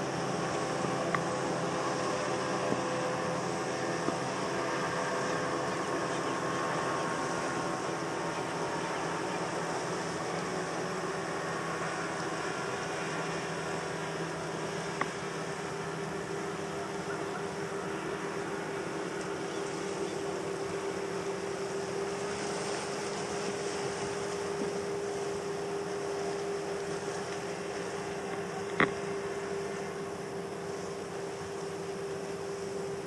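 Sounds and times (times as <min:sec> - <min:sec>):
constant hiss: 0:00.0 - 0:33.0
distant motorboats droning: 0:00.0 - 0:33.0.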